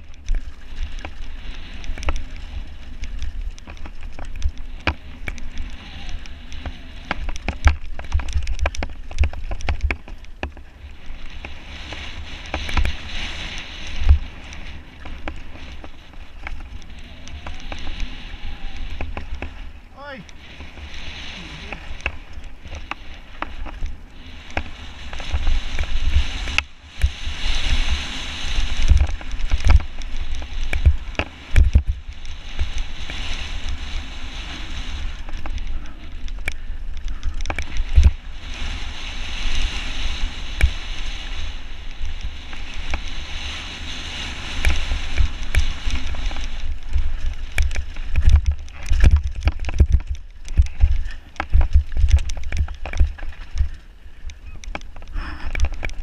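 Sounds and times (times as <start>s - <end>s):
bike knocking and rattling on rocks: 0.0s - 21.0s, 21.6s - 56.0s
wind rumble on microphone: 0.0s - 56.0s.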